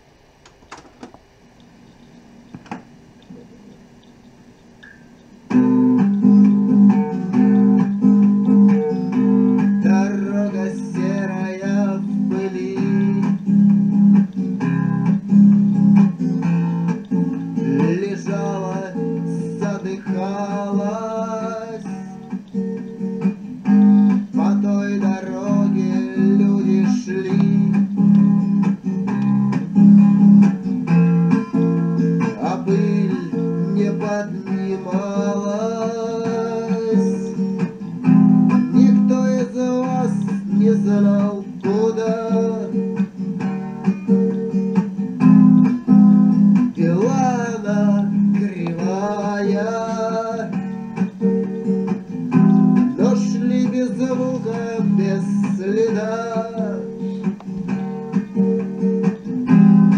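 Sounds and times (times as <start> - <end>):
acoustic guitar song from speakers: 0.0 - 59.9.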